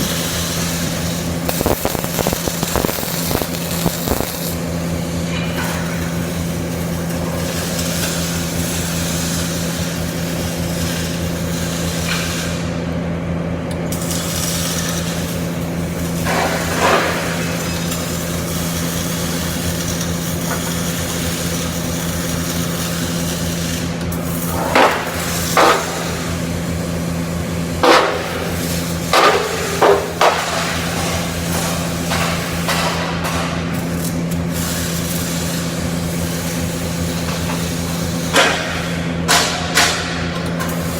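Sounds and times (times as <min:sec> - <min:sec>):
low machine hum: 0:00.0 - 0:40.9
welding arc crackling: 0:00.0 - 0:40.9.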